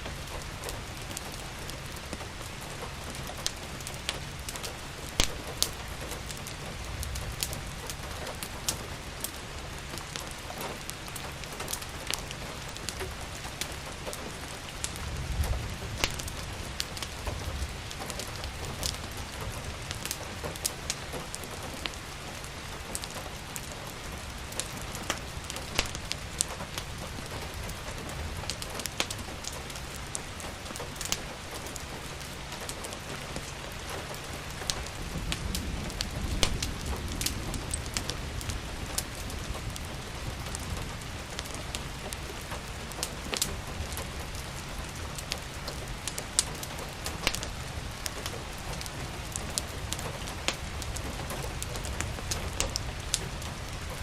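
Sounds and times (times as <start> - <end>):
rain falling: 0.0 - 54.0
wood fire crackling: 0.0 - 54.0.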